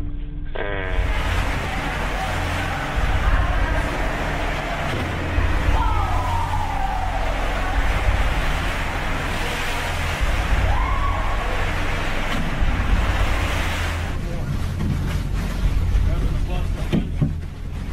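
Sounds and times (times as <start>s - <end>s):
gliding tone: 0.9s - 15.9s
seawater rushing across deck: 0.9s - 17.9s.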